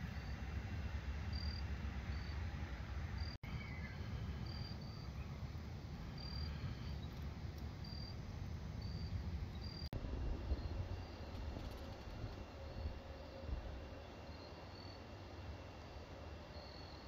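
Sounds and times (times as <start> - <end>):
crickets chirping: 0.0 - 2.5, 3.2 - 17.0
steady low rumble: 0.0 - 14.9.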